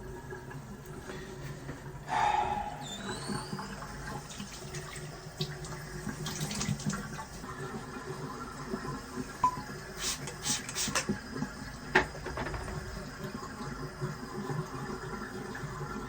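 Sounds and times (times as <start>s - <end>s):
water running from a tap: 2.8s - 16.0s.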